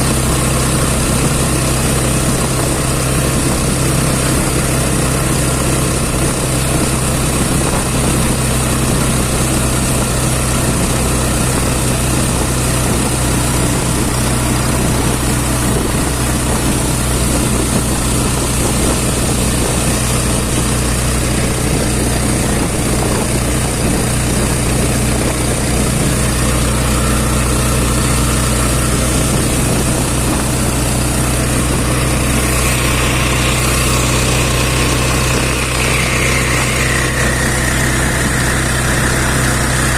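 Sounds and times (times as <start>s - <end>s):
rushing road noise: 0.0s - 39.9s
vehicle engine humming: 0.0s - 39.9s.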